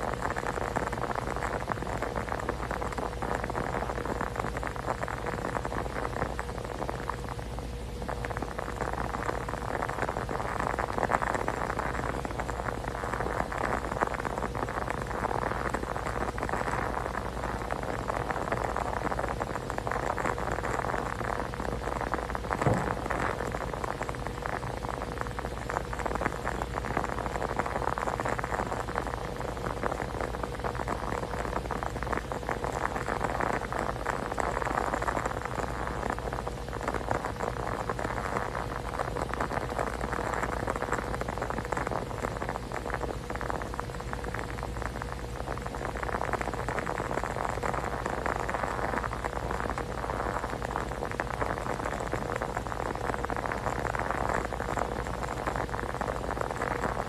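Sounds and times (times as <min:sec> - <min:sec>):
dense rain-like patter: 0:00.0 - 0:57.0
faint constant hum: 0:00.0 - 0:57.0.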